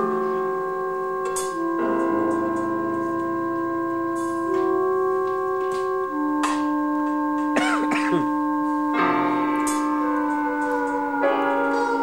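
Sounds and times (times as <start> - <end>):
held tones sounding together: 0.0 - 12.0.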